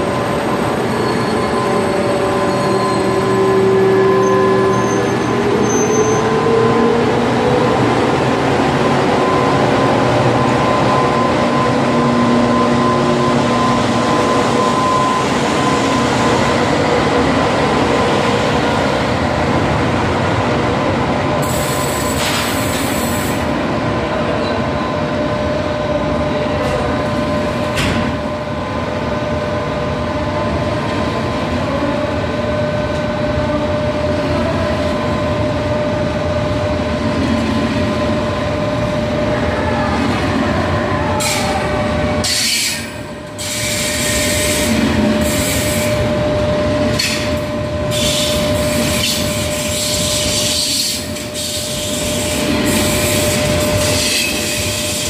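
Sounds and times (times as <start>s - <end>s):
sustained train whine: 0.0s - 55.0s
train wheels rumbling on rail: 0.0s - 55.0s.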